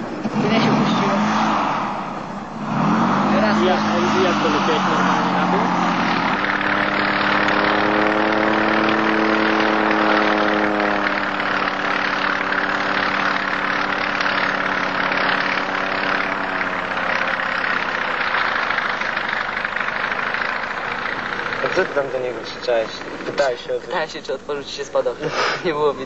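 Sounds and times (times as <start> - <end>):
propeller aircraft engine droning: 0.0 - 26.0.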